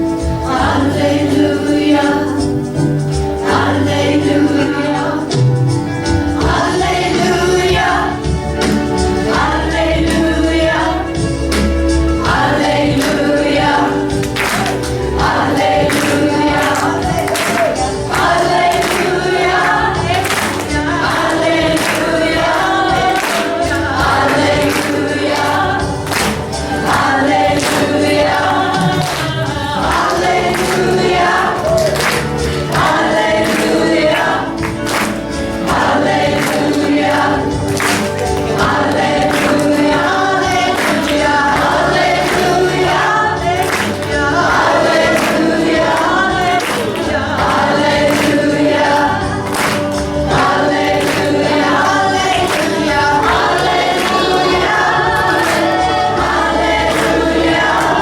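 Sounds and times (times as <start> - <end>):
choir singing gospel song: 0.0 - 58.0
percussive beat: 5.2 - 58.0.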